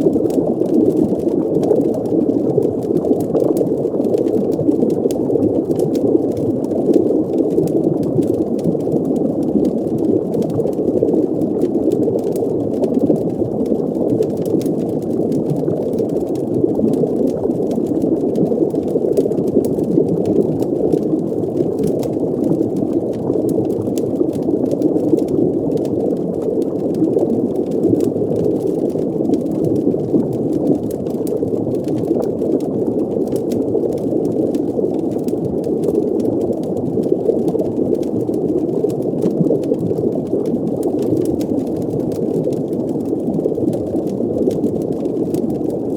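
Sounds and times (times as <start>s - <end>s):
faint crackles: 0.0s - 45.9s.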